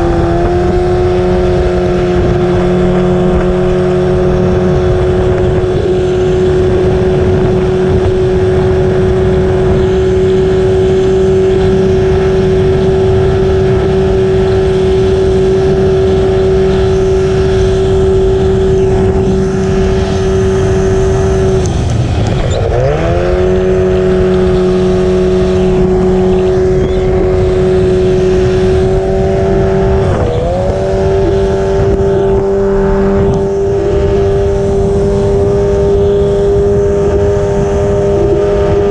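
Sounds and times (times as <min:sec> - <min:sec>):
race boat engine running hard: 0:00.0 - 0:38.9.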